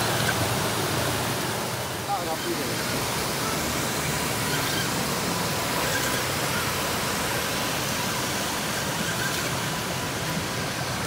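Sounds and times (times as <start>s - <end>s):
river water rushing over cascade: 0.0s - 11.0s.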